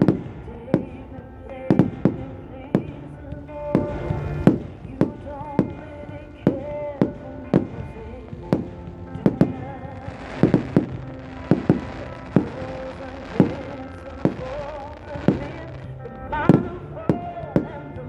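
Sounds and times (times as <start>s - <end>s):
fireworks bursting with sharp bangs: 0.0s - 18.0s.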